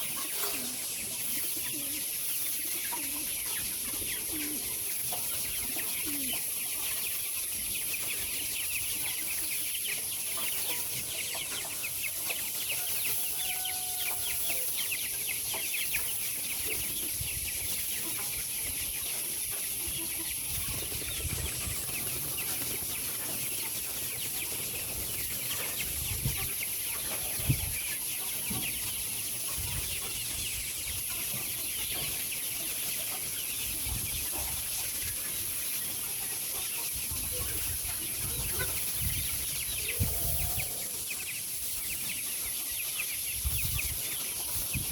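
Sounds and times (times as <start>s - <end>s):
chickens clucking and peeping: 0.0s - 44.9s.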